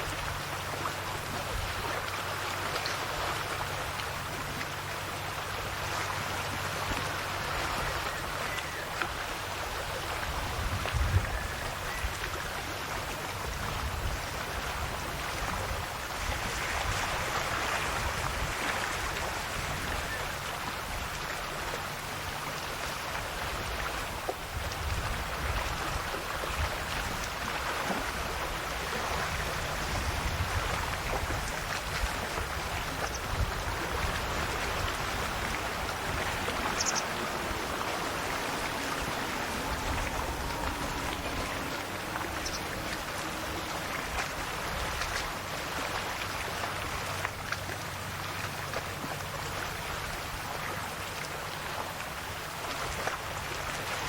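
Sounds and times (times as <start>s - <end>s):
small waves lapping shore: 0.0s - 54.0s.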